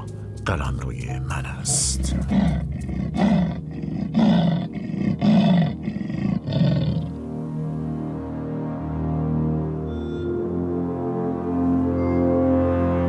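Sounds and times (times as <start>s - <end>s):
soft sustained music: 0.0s - 13.0s.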